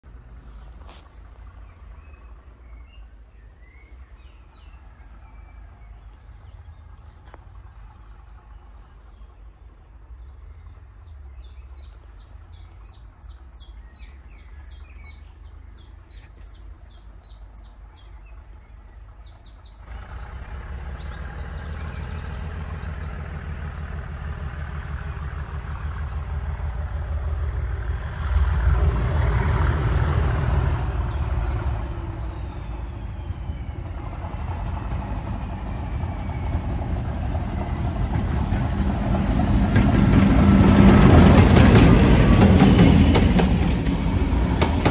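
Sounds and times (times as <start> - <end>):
diesel locomotive engine: 0.0 - 44.9
birds singing: 1.5 - 23.7, 28.5 - 44.9.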